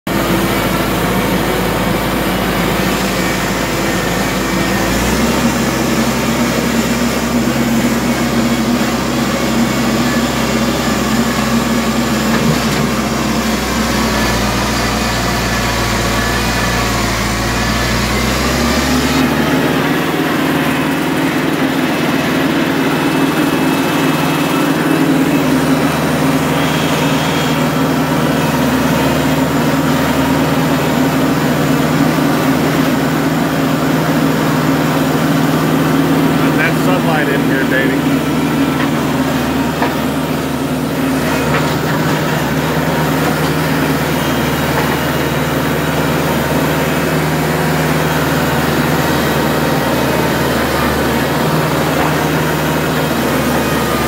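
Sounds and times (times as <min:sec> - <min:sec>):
tractor engine running: 0:00.1 - 0:54.0.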